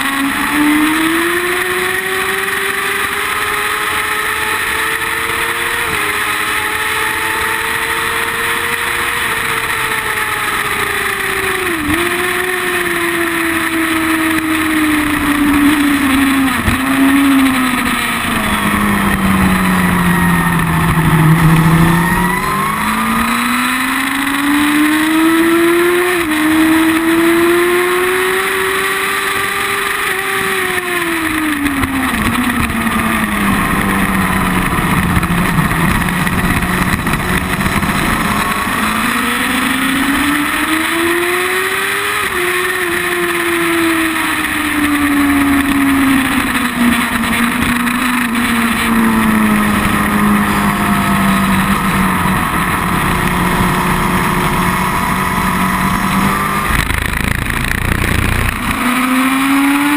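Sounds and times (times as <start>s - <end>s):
motorcycle engine revving: 0.0s - 59.9s
wind and road noise: 0.0s - 59.9s.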